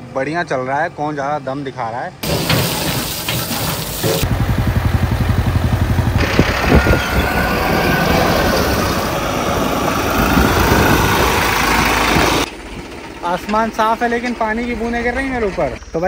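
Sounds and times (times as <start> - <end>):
tractor diesel engines running: 0.0 - 16.0.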